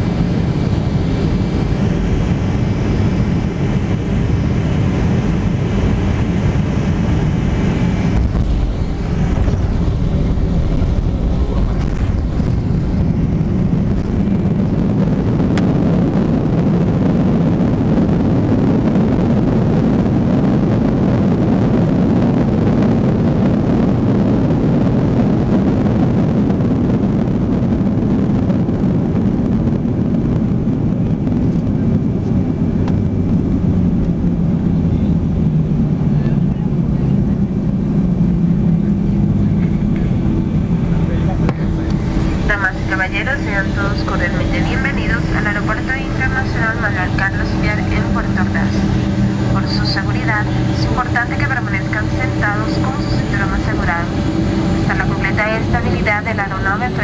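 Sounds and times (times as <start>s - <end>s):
heavy low rumble: 0.0s - 57.0s
jet engine and airflow noise: 0.0s - 57.0s.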